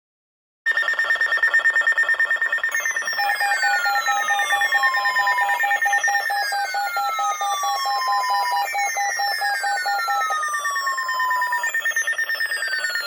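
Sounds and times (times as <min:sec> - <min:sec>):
falling alarm sweeps: 0:00.7 - 0:13.0
pulsing high alarm tone: 0:00.7 - 0:13.0.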